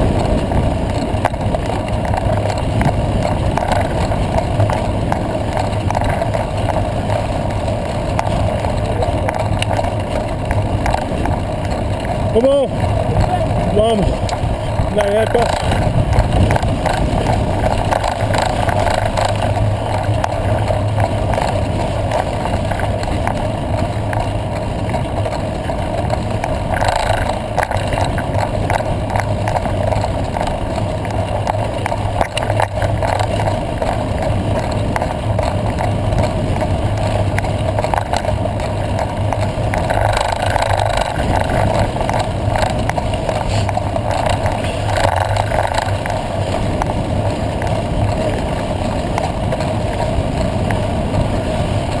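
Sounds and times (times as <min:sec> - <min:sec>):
bike rattles and jolts: 0:00.0 - 0:52.0
tyres rumbling on gravel: 0:00.0 - 0:52.0
wind noise: 0:00.0 - 0:52.0.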